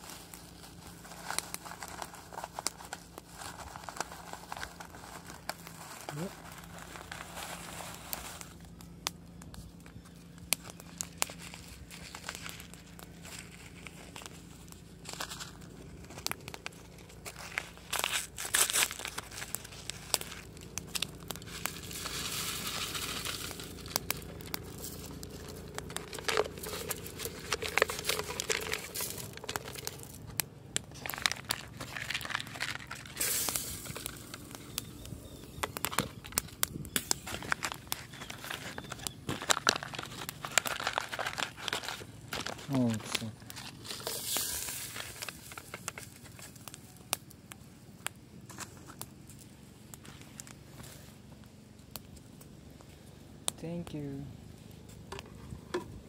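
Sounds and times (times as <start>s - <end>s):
plastic packet crinkling: 0.0s - 47.3s.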